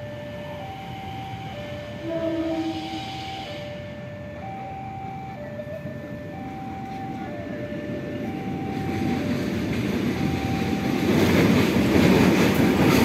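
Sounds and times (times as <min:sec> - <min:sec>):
train rumble and wheel noise: 0:00.0 - 0:13.0.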